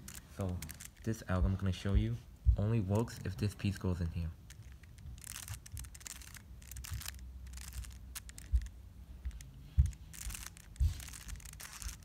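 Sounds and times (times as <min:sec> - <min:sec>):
puzzle cube twisting clicks: 0:00.0 - 0:01.2, 0:03.0 - 0:12.0
cube thumping: 0:00.0 - 0:12.0.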